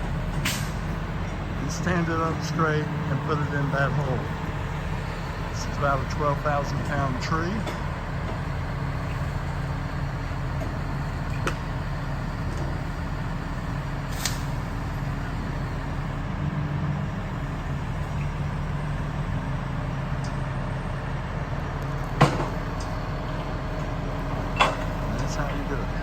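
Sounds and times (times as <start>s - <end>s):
heavy engine humming: 0.0s - 26.0s.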